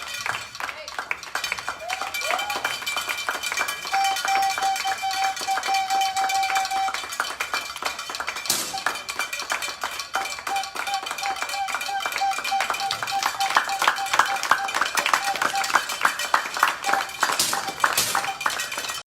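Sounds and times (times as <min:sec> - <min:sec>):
spectators clapping: 0:00.0 - 0:19.0.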